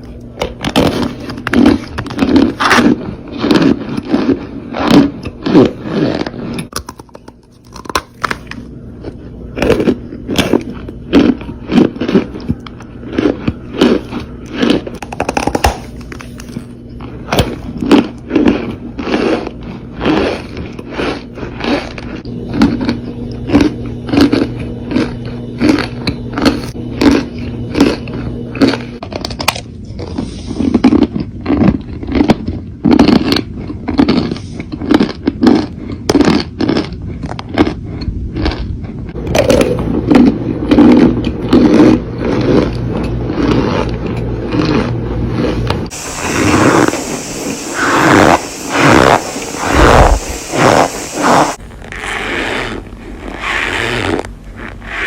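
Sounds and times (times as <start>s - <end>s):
brittle material crunching: 0.0s - 47.1s
faint steady hum: 0.0s - 55.0s.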